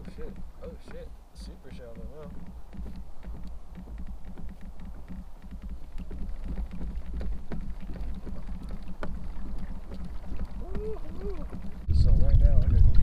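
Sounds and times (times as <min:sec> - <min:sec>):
small clicks and knocks: 0:00.0 - 0:13.0
water rumbling against hull: 0:00.0 - 0:13.0.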